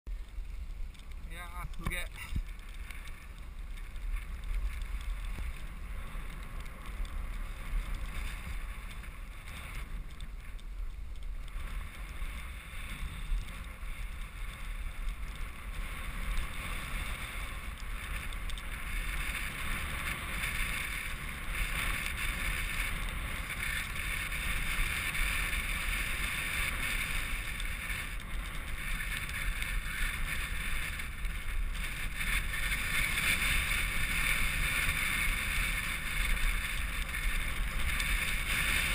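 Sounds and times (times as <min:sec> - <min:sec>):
wind buffeting microphone: 0:00.2 - 0:38.9.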